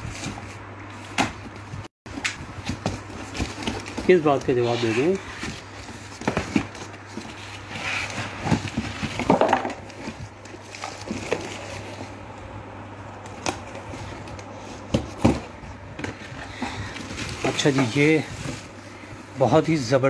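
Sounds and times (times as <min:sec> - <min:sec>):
packaging rustling and crinkling: 0:02.1 - 0:12.2, 0:13.2 - 0:20.0.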